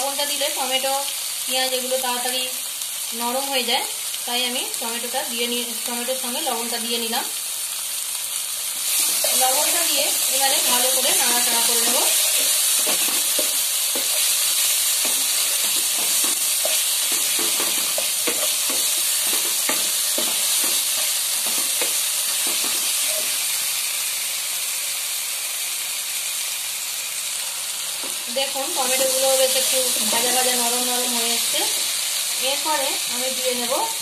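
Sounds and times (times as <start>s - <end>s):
masala sizzling in oil: 0.0s - 34.0s.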